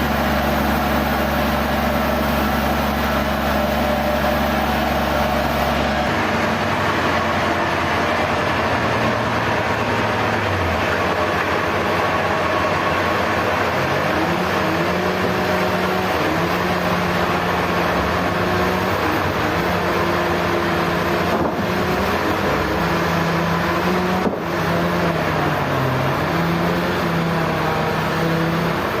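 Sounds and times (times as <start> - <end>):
motor hum: 0.0 - 29.0
sawmill machinery cutting: 0.0 - 29.0.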